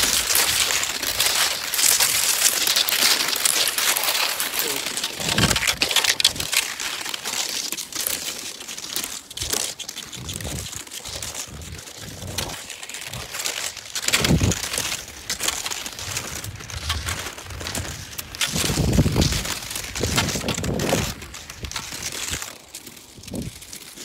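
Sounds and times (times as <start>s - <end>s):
skis swishing over wet snow: 0.0s - 24.0s.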